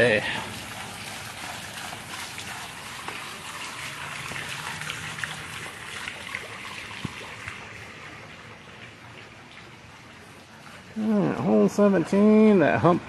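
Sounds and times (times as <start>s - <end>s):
trickling water hiss: 0.0s - 13.0s.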